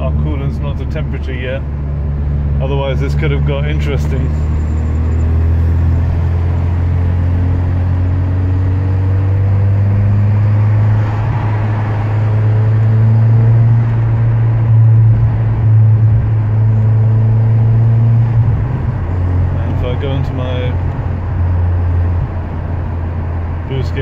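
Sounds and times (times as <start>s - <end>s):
car engine drone: 0.0s - 24.0s
road and tyre noise: 0.0s - 24.0s.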